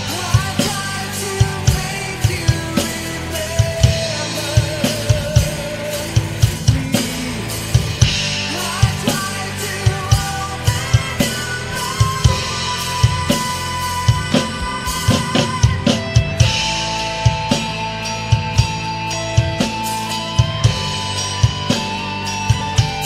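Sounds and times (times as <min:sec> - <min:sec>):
recorded metal song: 0:00.0 - 0:23.0.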